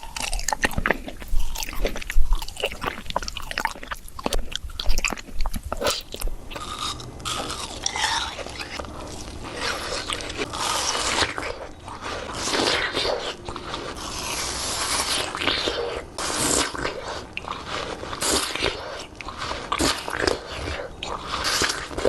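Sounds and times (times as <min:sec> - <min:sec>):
biting and chewing fruit: 0:00.0 - 0:22.0.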